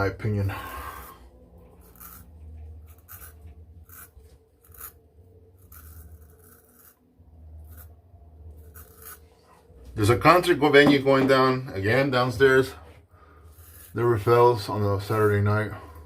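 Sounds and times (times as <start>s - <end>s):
razor scraping stubble: 0.9s - 12.7s, 13.3s - 16.0s.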